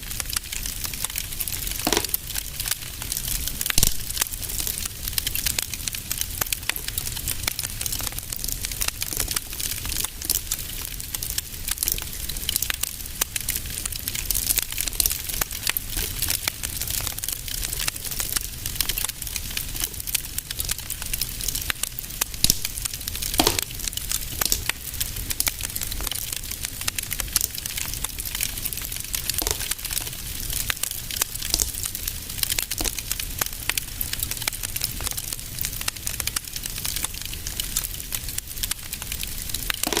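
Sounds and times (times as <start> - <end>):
fire popping: 0.0 - 40.0
wood fire crackling: 0.0 - 40.0.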